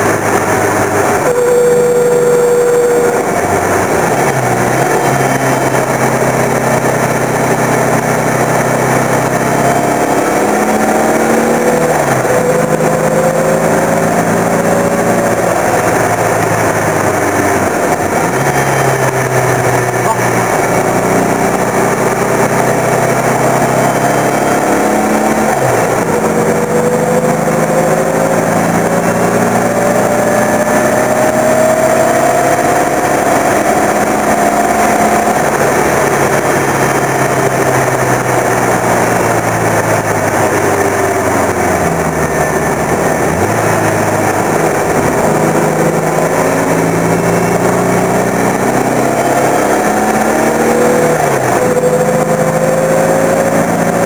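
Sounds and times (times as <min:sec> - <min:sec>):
turbocharged car engine revving: 0:00.0 - 0:54.0
wind and road noise: 0:00.0 - 0:54.0.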